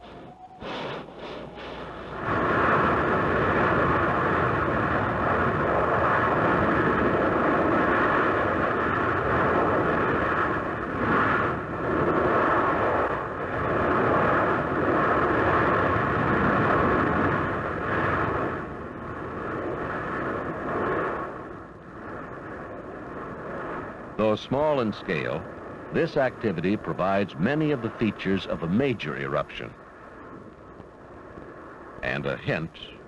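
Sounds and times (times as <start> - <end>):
molten lava churning: 0.0 - 32.8.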